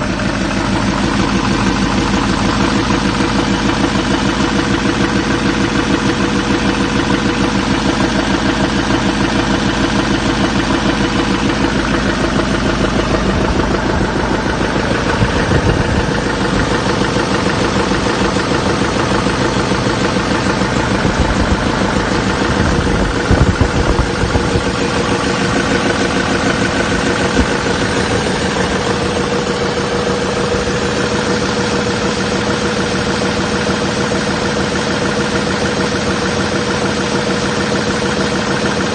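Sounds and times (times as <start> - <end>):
diesel engine idling with knock: 0.0 - 38.9.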